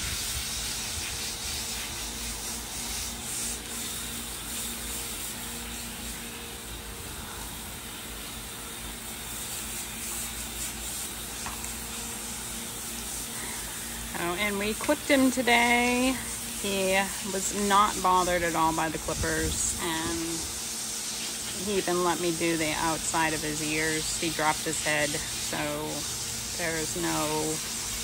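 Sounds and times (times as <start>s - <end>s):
garden hose spraying water: 0.0s - 28.0s.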